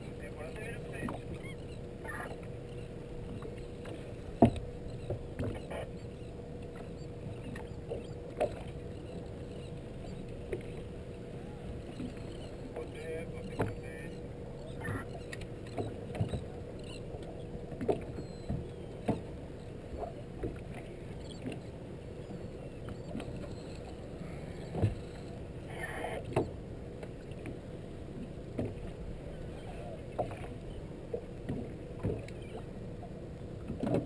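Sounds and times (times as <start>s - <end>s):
faint steady hum: 0.0s - 34.0s
water and wind against hull: 0.0s - 34.0s.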